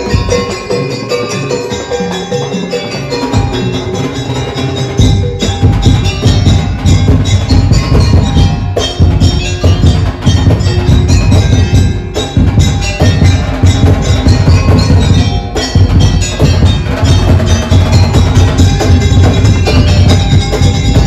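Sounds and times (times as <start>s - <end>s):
fast percussion music: 0.0s - 21.0s
heavy drum beat with bass: 0.0s - 21.0s.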